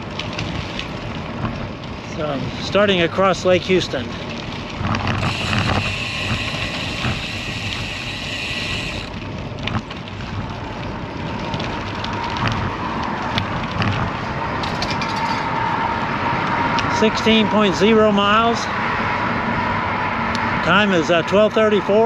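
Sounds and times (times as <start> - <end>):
road traffic passing: 3.3 - 21.4.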